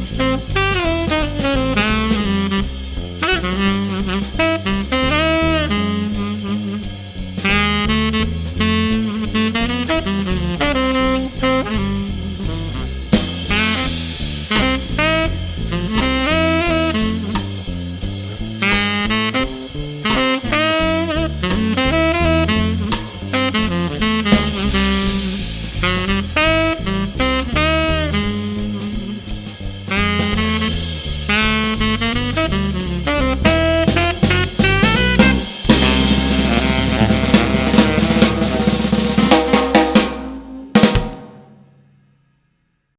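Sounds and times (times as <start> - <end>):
walking bass line: 0.0 - 40.0
jazz saxophone melody: 0.0 - 41.1
cymbal-led drums: 0.0 - 42.0.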